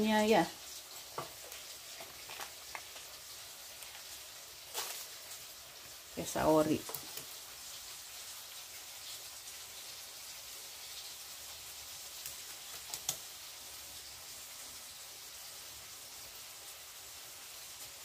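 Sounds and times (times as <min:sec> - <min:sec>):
sharp crackles of frying: 0:00.0 - 0:18.0
spice paste sizzling in a pan: 0:00.0 - 0:18.0.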